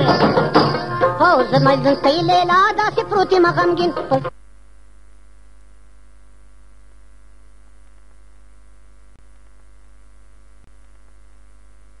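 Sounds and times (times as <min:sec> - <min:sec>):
electrical mains hum: 0:01.2 - 0:12.0.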